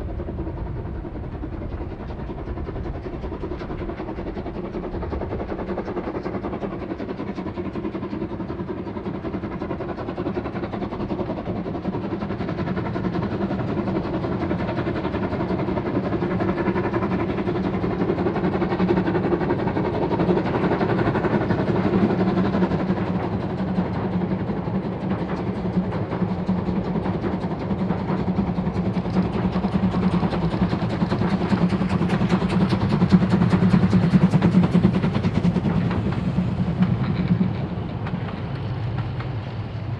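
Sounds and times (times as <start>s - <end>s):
steam train running: 0.0s - 39.9s.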